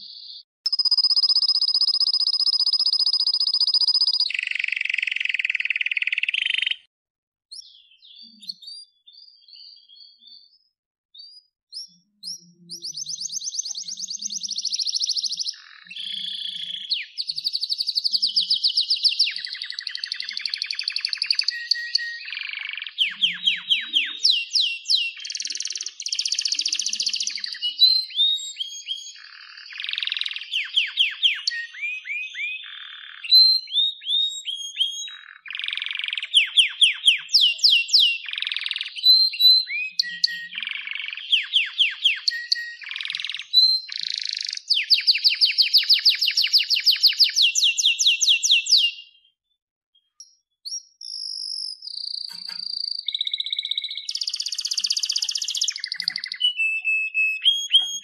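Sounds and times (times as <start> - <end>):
bird singing: 0.0 - 6.9, 7.5 - 49.4, 50.0 - 58.0.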